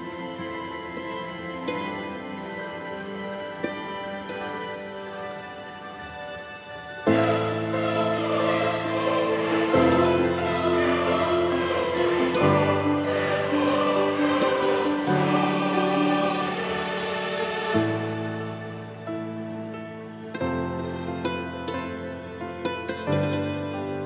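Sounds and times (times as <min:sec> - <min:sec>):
slow choral music: 0:00.0 - 0:24.0.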